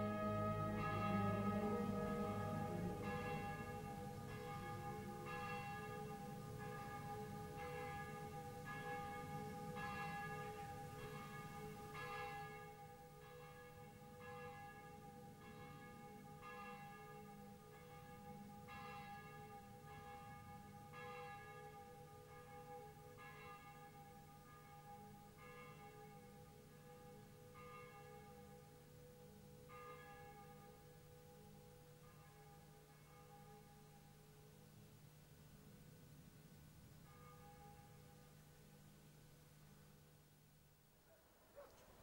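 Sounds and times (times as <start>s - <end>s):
church bells ringing: 0.0s - 34.0s, 37.1s - 38.2s.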